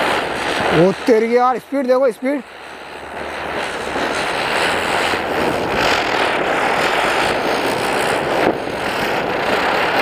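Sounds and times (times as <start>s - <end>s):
ground spinner firework hissing: 0.0s - 10.0s.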